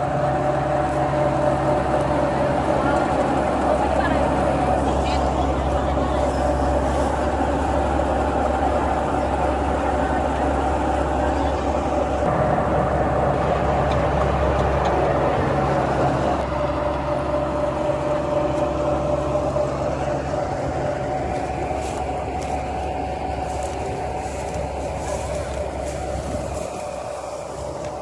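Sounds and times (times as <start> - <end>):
diesel farm engines droning: 0.0 - 28.0.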